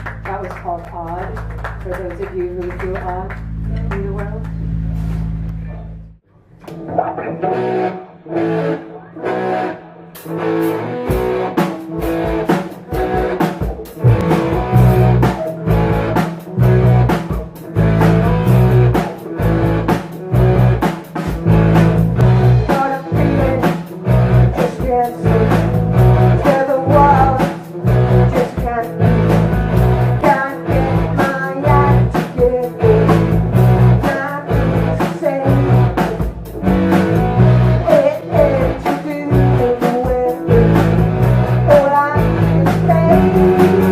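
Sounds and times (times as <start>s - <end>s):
bass: 0.0s - 43.9s
drums: 0.0s - 43.9s
electric guitar: 6.4s - 43.9s.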